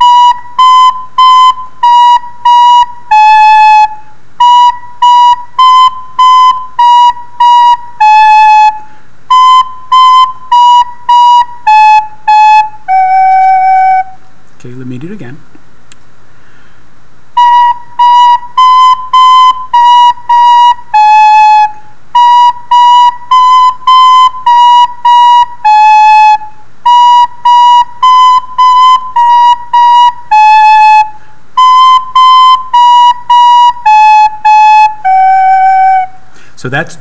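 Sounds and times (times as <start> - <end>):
recorder playing a simple tune: 0.0 - 14.3, 17.3 - 36.3.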